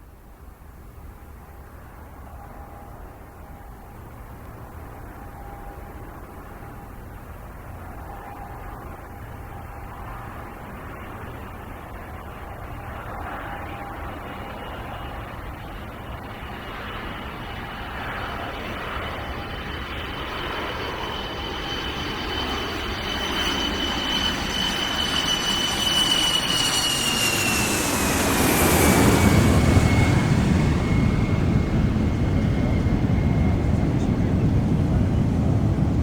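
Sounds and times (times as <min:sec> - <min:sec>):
jet airliner flyover: 0:00.3 - 0:36.0.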